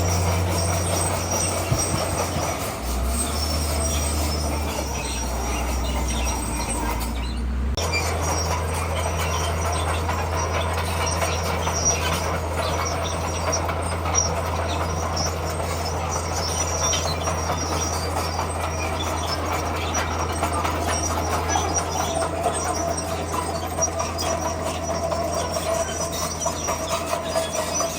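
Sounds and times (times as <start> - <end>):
diesel engine droning: 0.0 - 27.9
steel tracks squeaking and clanking: 0.0 - 27.9.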